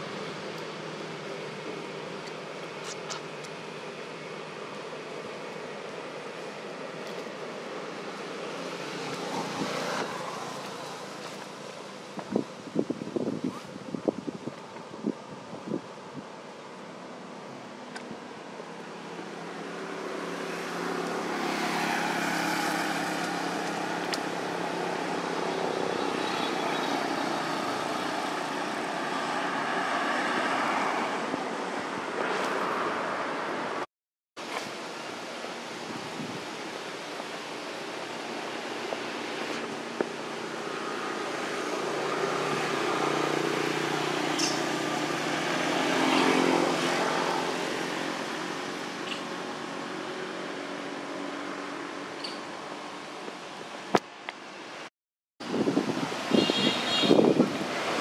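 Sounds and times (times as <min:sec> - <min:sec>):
motor vehicles passing: 0:00.0 - 0:12.4, 0:17.3 - 0:33.8, 0:36.2 - 0:53.4, 0:55.4 - 0:58.0.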